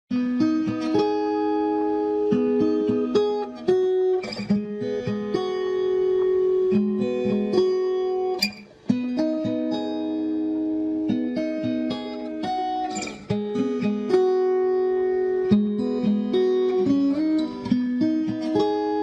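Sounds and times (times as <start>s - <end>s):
plucked guitar music: 0.1s - 19.0s.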